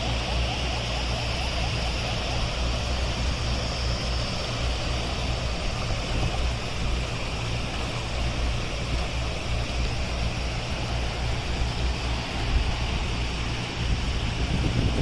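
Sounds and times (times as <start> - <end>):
river current rushing: 0.0 - 15.0.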